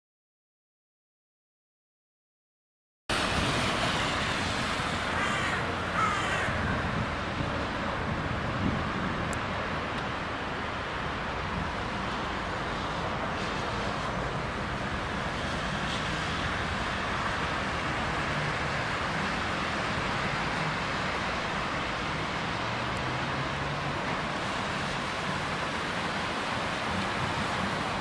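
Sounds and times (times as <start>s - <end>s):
road traffic with engines: 3.1s - 28.0s.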